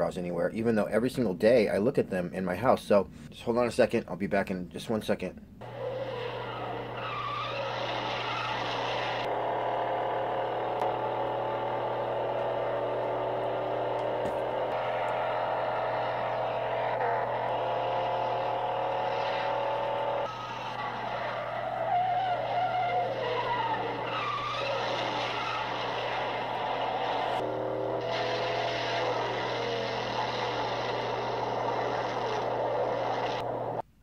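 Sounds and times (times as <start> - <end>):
tyres screeching: 5.6 - 33.8
car engines revving: 5.6 - 33.9.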